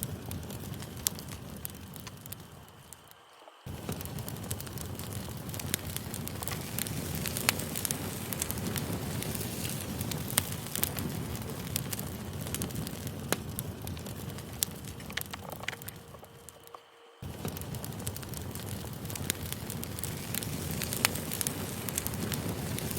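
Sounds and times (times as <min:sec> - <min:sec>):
campfire crackling: 0:00.0 - 0:22.9
sharp pops of burning wood: 0:00.0 - 0:22.9.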